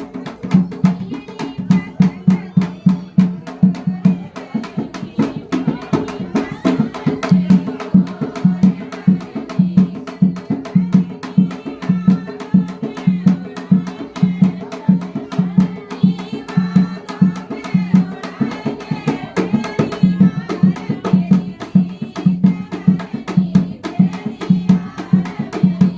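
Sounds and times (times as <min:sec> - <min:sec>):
background music with percussion beat: 0:00.0 - 0:25.9.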